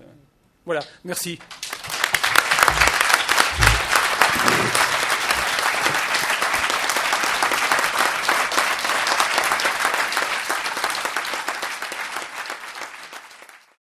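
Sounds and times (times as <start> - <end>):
audience applauding: 1.3 - 13.8.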